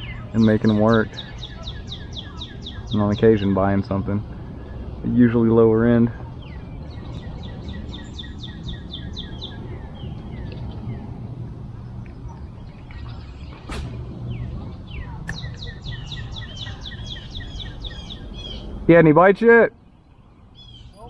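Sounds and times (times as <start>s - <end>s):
songbirds singing: 0.0s - 21.0s
steady low rumble: 2.6s - 20.6s.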